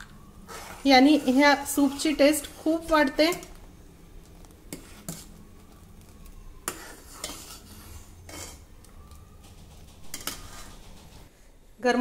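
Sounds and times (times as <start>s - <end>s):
ladle stirring thick soup: 0.2s - 11.3s.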